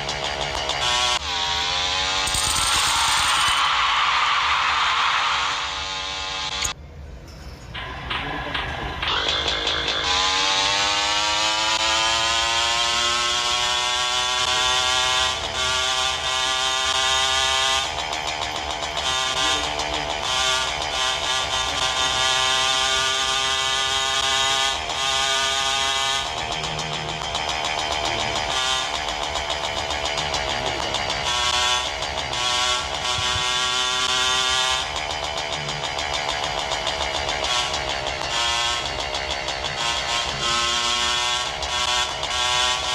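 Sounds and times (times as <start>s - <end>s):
motorcycle engine accelerating: 0.0s - 6.8s, 7.8s - 42.9s.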